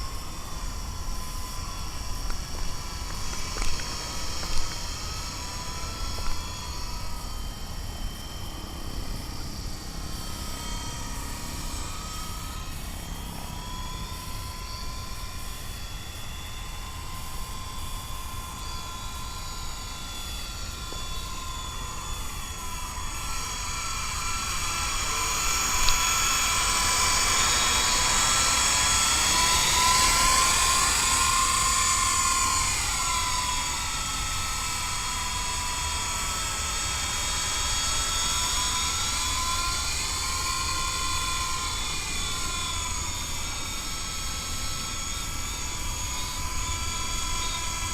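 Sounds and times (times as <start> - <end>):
rc helicopter motor whining: 0.0 - 47.9.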